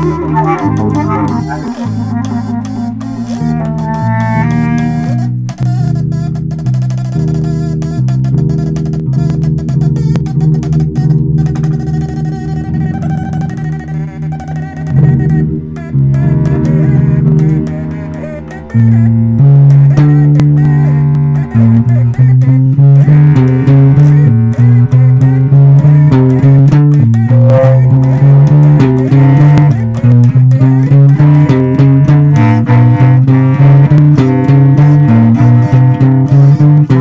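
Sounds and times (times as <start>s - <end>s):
electric bass line: 0.0s - 37.0s
plucked guitar notes: 0.0s - 37.0s.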